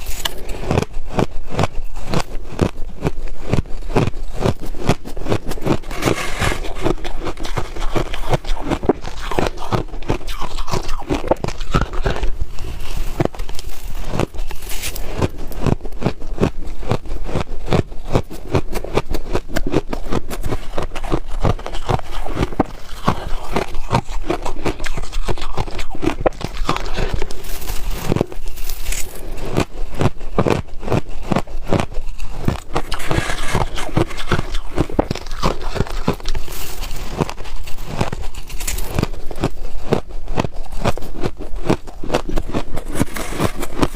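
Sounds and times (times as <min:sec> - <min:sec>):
frost crunched between teeth: 0:04.9 - 0:16.2, 0:19.4 - 0:43.9.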